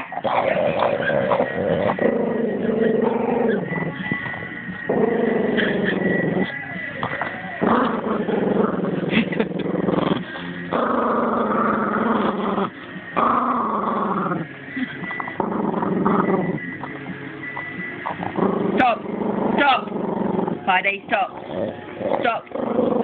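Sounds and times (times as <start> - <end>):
dog growling: 0.0 - 23.0.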